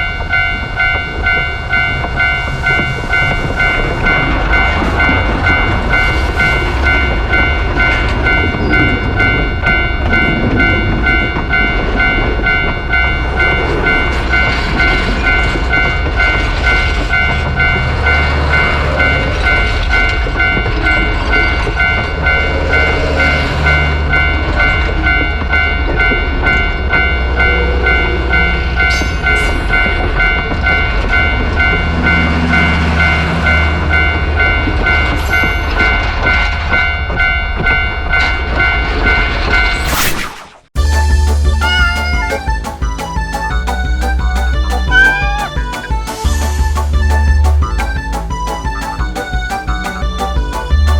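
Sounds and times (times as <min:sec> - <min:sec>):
train rumbling past: 0:00.0 - 0:39.8, 0:40.8 - 0:50.9
level-crossing alarm ringing: 0:00.0 - 0:40.1, 0:40.8 - 0:50.9.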